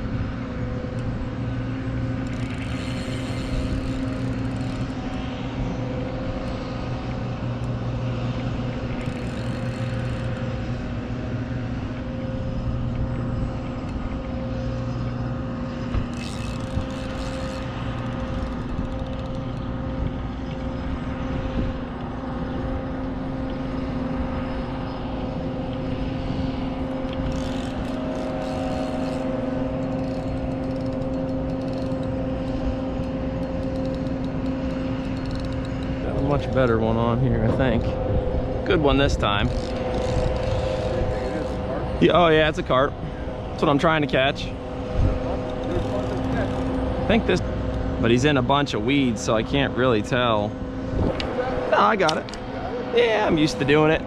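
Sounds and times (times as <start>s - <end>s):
engine drone: 0.0s - 54.0s.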